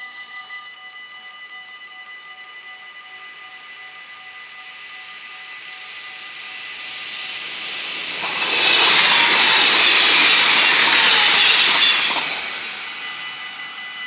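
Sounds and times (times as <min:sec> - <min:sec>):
crossing warning bells ringing: 0:00.0 - 0:14.0
electric train passing: 0:00.2 - 0:14.0.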